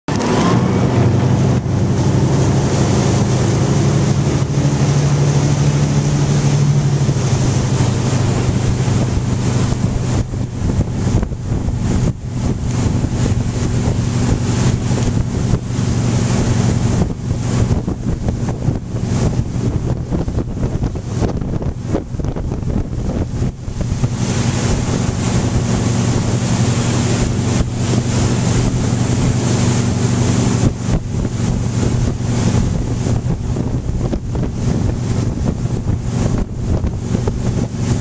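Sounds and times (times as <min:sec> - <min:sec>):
boat engine running: 0:00.0 - 0:38.0
wind buffeting microphone: 0:00.1 - 0:38.0.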